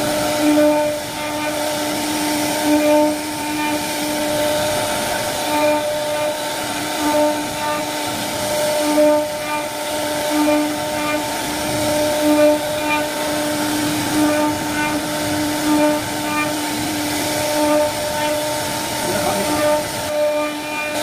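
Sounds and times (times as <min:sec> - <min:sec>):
router spindle whining cutting wood: 0:00.0 - 0:21.0.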